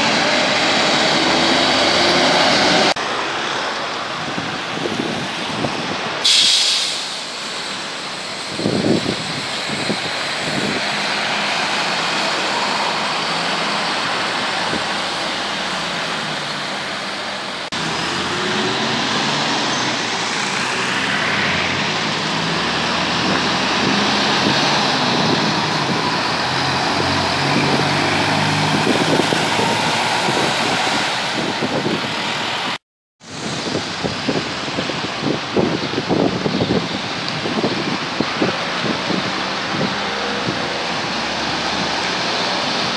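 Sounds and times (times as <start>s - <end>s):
bus diesel engines running: 0.0s - 42.9s
road traffic noise: 0.0s - 42.9s.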